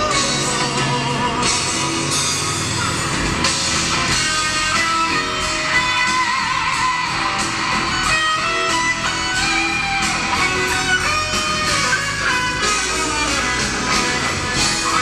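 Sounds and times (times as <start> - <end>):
pop-rock song on car speakers: 0.0 - 15.0.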